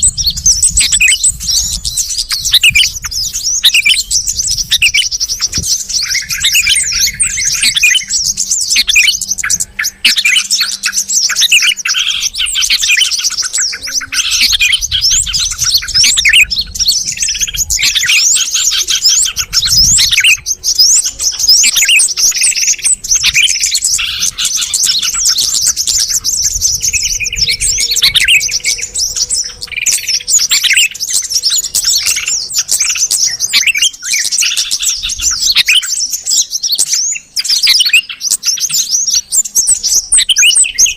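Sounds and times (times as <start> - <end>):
bulbuls chattering noisily: 0.0 - 40.9
low warbled bird phrases: 0.0 - 40.9
yellow-vented bulbul calls: 0.0 - 40.9.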